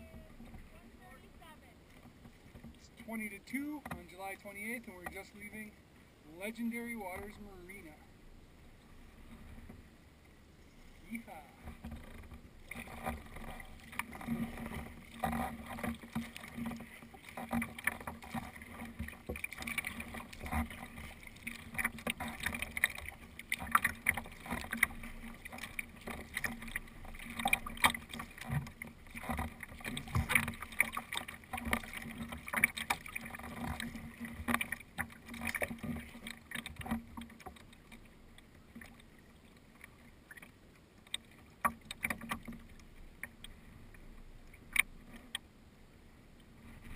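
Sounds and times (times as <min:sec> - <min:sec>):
water splashing against kayak hull: 0:00.0 - 0:45.6.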